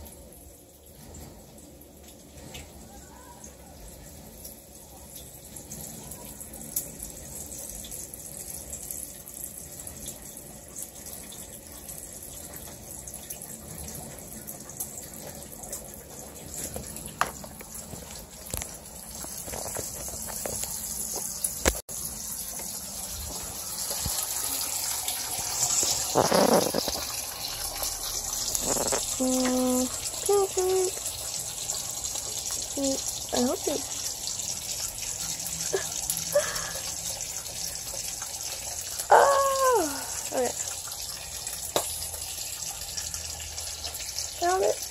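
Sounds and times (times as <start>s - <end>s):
food frying in a pan: 0.0s - 44.9s.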